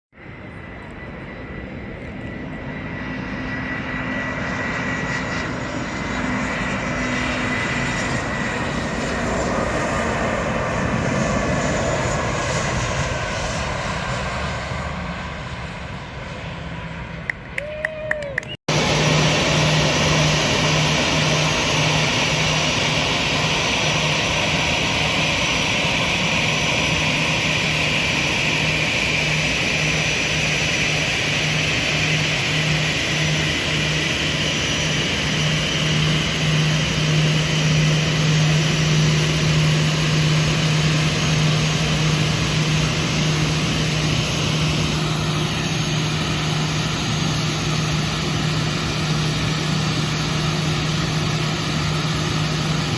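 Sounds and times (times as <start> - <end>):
constant low hum: 0.2 - 52.9
high engine whine: 0.2 - 52.9
jet engines roaring: 0.2 - 52.9.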